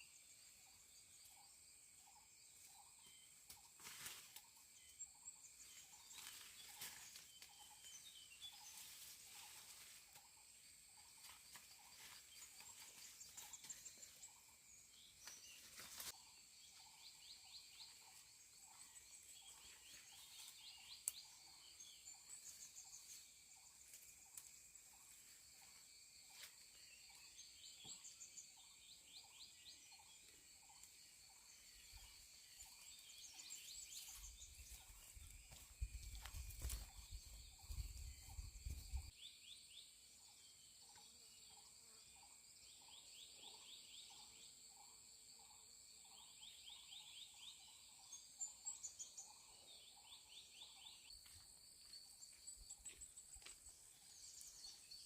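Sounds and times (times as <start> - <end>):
insect chorus buzzing and trilling: 0.0 - 55.0.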